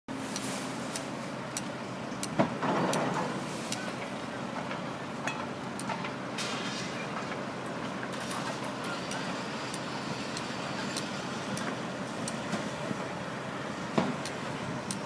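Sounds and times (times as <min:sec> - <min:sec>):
excavator diesel engine running: 0:00.1 - 0:15.0.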